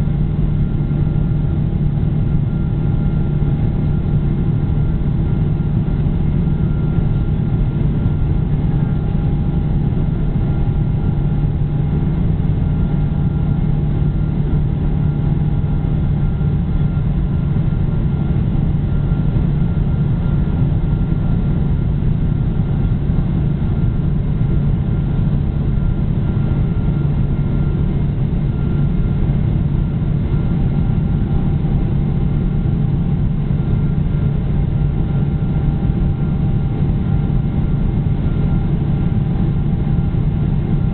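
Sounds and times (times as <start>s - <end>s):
jet cabin engine hum: 0.0s - 40.9s.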